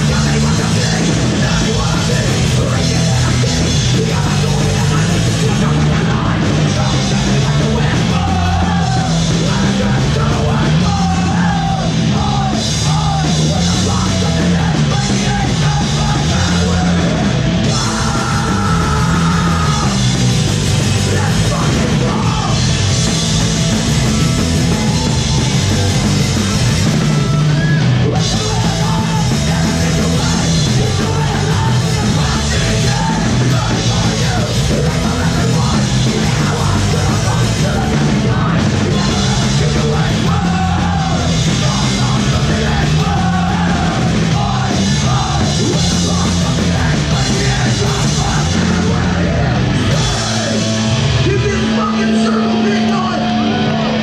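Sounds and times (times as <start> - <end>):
punk rock band playing: 0.0 - 54.0
singer yelling: 0.0 - 54.0.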